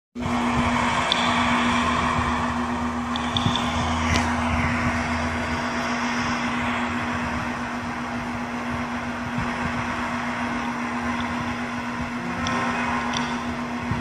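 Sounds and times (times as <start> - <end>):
low hum: 0.2 - 14.0.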